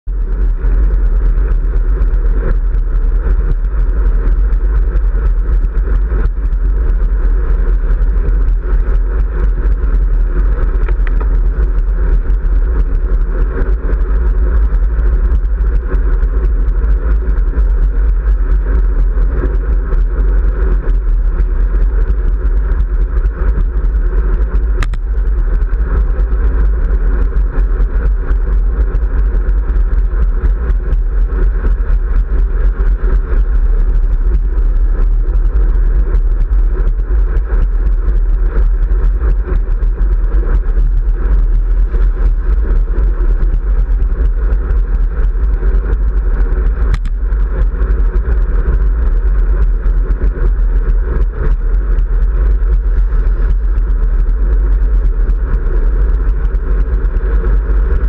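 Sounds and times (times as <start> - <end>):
road and tyre noise: 0.0 - 58.0
wind buffeting microphone: 0.1 - 55.6.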